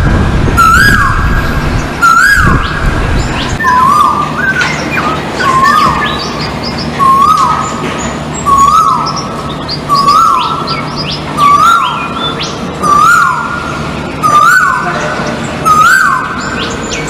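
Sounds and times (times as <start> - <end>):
birds chirping in background: 0.6 - 17.0.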